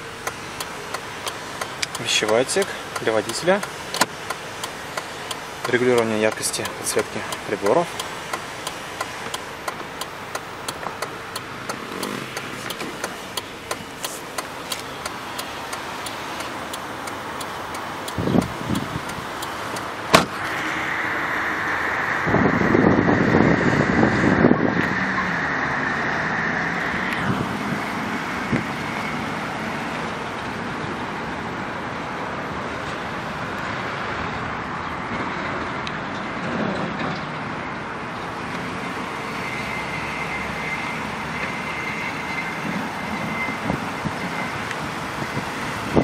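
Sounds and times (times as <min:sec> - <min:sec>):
motor vehicle noise: 0:00.0 - 0:46.0.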